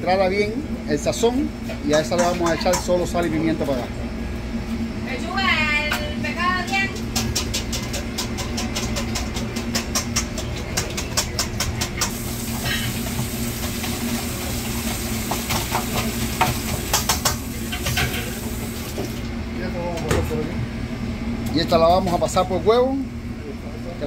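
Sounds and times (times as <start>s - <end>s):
kitchen ventilation hum: 0.0s - 24.0s.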